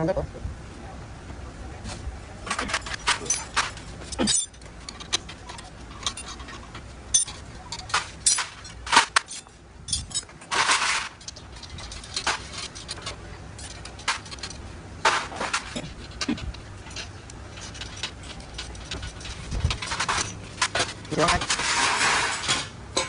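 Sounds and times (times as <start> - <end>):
metal rattle: 2.4 - 23.0
metal tools clinking: 2.4 - 23.0.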